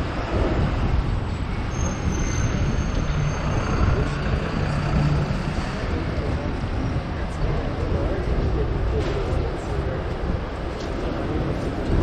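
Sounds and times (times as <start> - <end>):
road traffic: 0.0 - 12.0
tram wheels and motor rumbling: 0.0 - 12.0.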